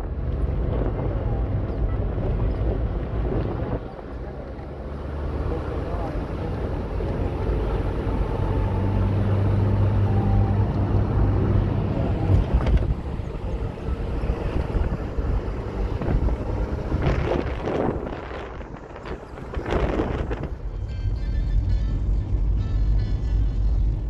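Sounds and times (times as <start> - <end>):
engine low rumble: 0.0 - 24.0.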